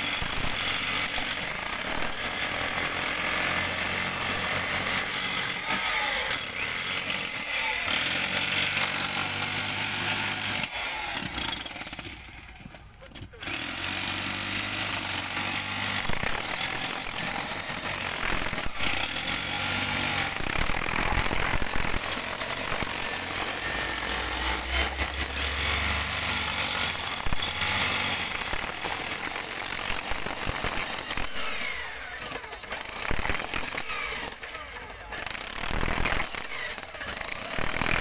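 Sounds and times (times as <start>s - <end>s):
jackhammer hammering: 0.0s - 38.0s.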